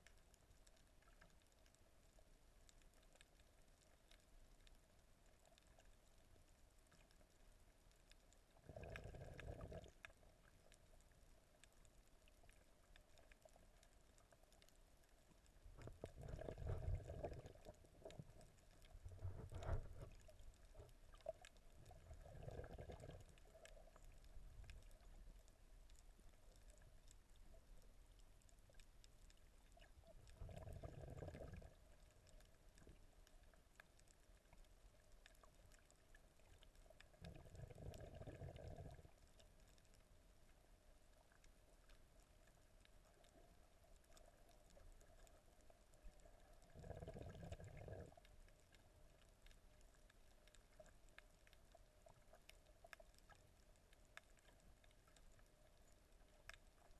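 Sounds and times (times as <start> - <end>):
faint underwater crackle: 0.0 - 56.9.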